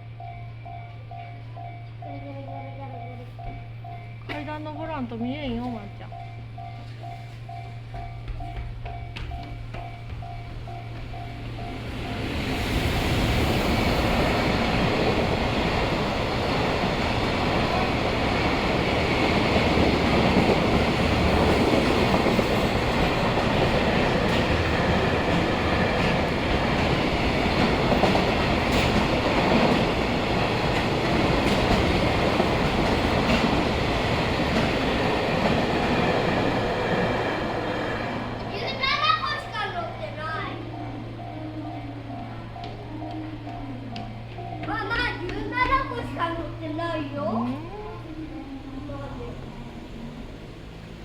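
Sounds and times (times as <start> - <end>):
freight train wheels on rails: 0.0 - 51.0.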